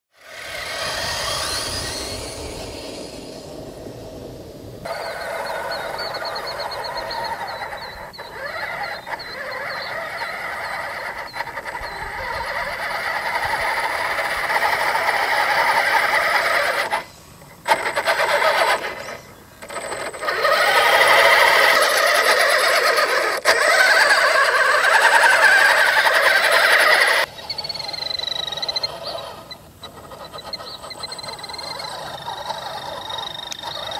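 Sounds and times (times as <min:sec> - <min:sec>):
toy truck motor whining: 0:00.2 - 0:03.5, 0:04.9 - 0:33.9
birds chirping: 0:00.3 - 0:33.9.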